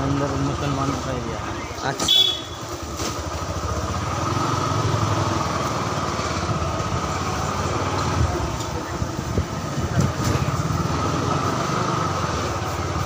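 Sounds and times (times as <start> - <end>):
motorbike engine running: 2.0 - 13.0.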